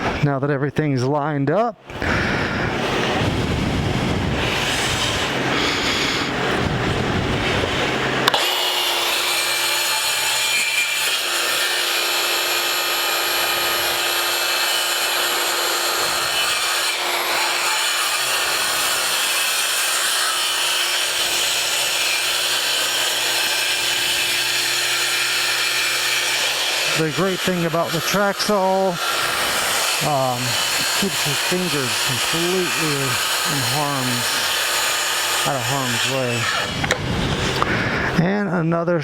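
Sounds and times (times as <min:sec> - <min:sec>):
saw cutting wood: 0:01.9 - 0:38.3.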